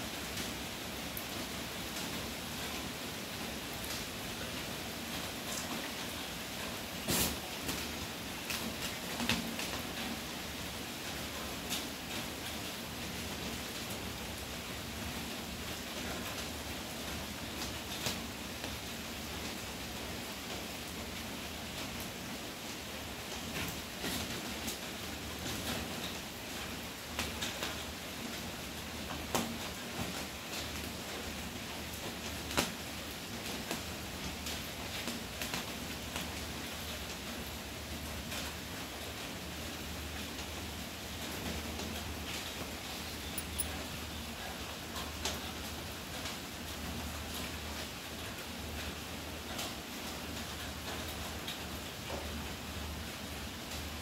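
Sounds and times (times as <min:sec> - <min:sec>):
steady hiss: 0:00.0 - 0:53.9
steady rain: 0:00.0 - 0:54.0.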